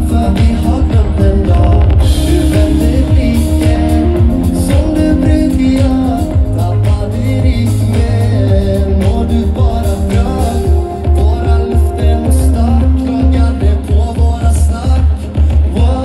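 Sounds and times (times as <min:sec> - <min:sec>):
live pop band playing: 0:00.0 - 0:16.0
male lead singer: 0:00.0 - 0:16.0.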